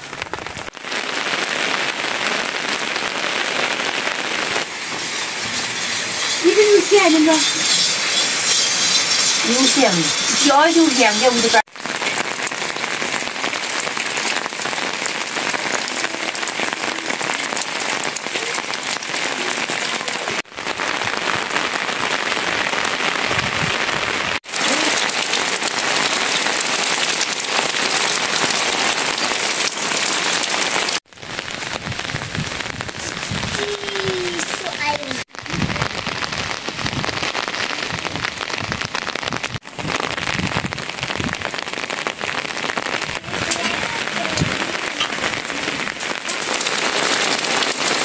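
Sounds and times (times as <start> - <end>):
rain splashing on ground: 0.0 - 48.0.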